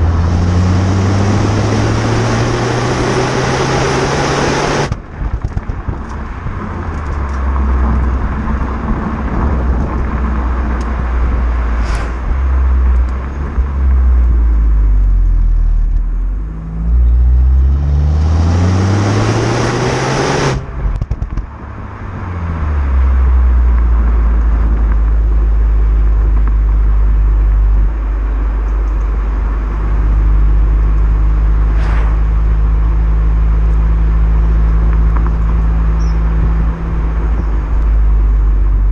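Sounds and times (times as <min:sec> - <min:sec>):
car engine revving: 0:00.0 - 0:05.0, 0:06.1 - 0:38.9.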